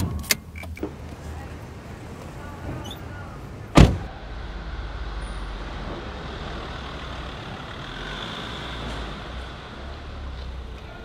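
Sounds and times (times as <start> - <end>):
road traffic rumble and hiss: 0.0 - 11.0.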